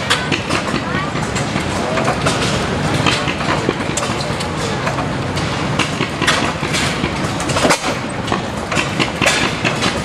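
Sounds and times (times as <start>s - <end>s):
mechanical clatter of clicks: 0.0s - 10.0s.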